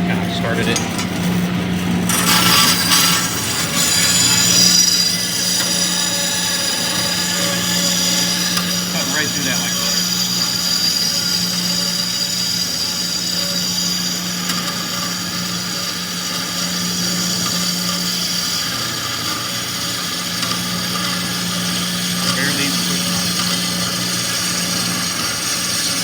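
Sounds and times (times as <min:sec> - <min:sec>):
band saw motor hum: 0:00.0 - 0:26.0
saw blade whine cutting steel: 0:00.0 - 0:26.0.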